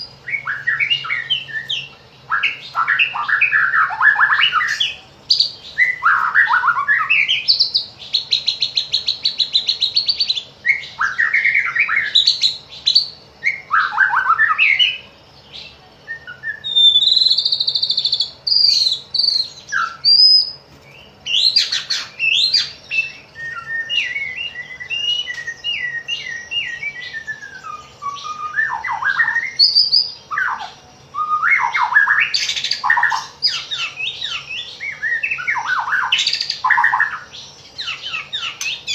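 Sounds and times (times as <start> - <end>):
bird singing whistled song: 0.0 - 38.9
buzzy bird trill: 0.0 - 38.9.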